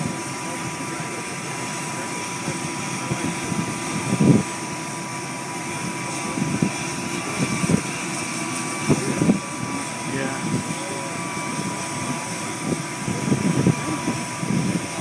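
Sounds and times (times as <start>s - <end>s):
helicopter turbine whine: 0.0s - 15.0s.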